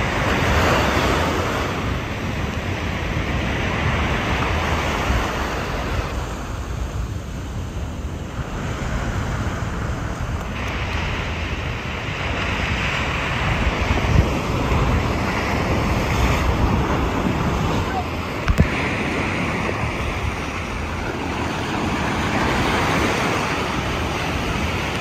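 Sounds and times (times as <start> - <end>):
ocean surf breaking on sand: 0.0 - 25.0
wind buffeting microphone: 0.0 - 25.0.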